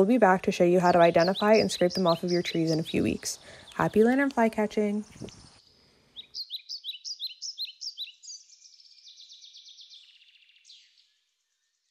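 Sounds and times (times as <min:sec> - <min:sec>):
bird chirping and trilling: 0:00.6 - 0:11.9.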